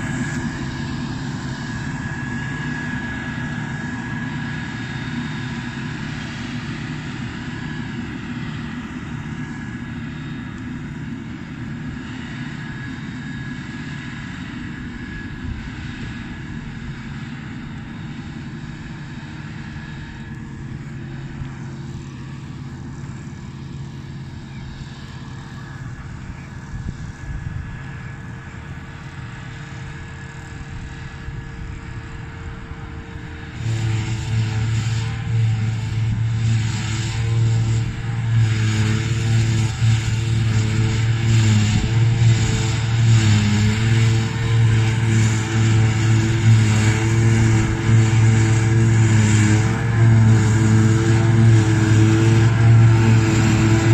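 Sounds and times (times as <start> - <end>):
forage harvester droning: 0.0 - 53.9
tractor engine: 0.0 - 53.9.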